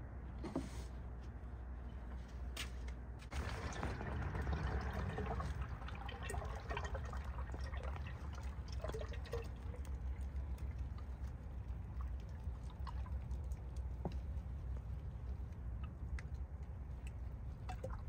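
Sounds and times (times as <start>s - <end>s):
oil pouring through funnel: 3.3s - 18.0s.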